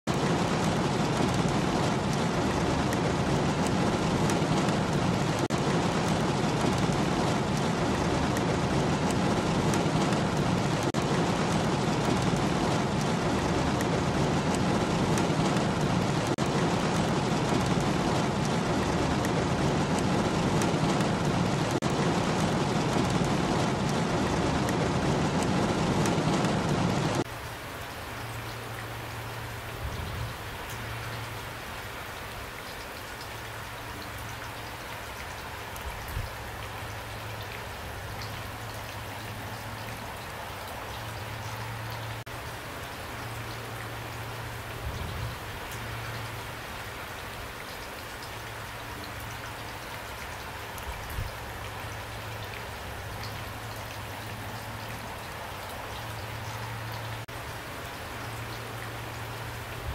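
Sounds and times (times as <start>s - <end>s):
light rainfall: 0.0s - 59.9s
heavy rain on car roof: 0.1s - 59.9s.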